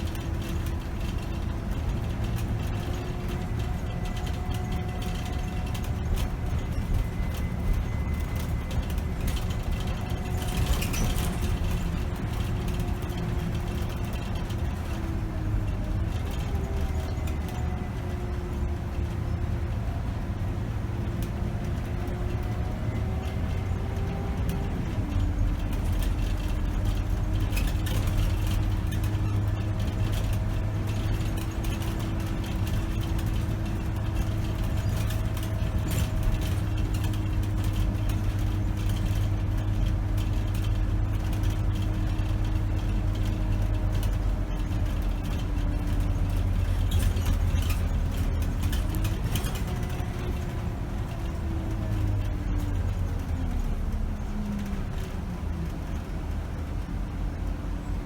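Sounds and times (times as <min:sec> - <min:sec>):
bus diesel engine: 0:00.0 - 0:58.0
light interior rattles: 0:00.0 - 0:58.0
road noise: 0:00.0 - 0:58.0.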